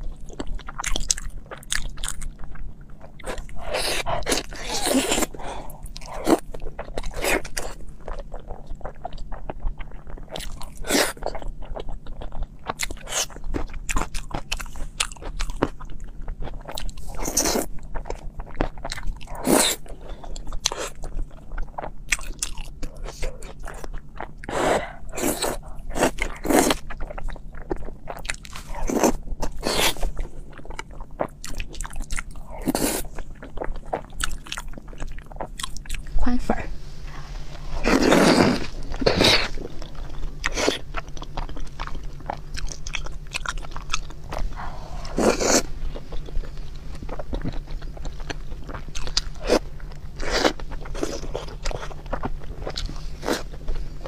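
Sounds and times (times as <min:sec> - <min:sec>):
wet chewing: 0:00.0 - 0:36.1, 0:37.5 - 0:54.0.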